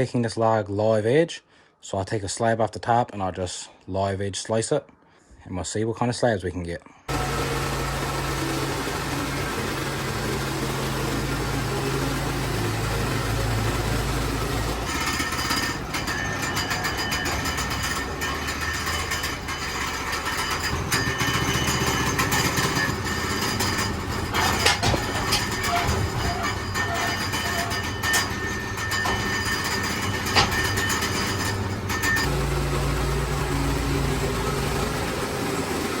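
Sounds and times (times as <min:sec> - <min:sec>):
sawmill gas engine running: 0:07.1 - 0:36.0.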